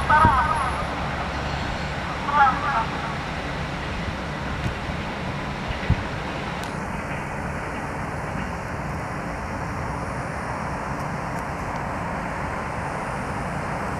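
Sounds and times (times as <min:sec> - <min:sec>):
train wheels on track: 0:00.0 - 0:13.9.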